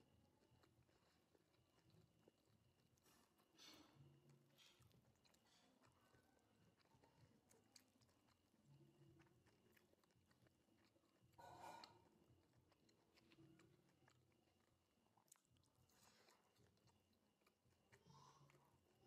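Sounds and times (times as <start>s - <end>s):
chewing crispy fried food: 0.0s - 19.0s.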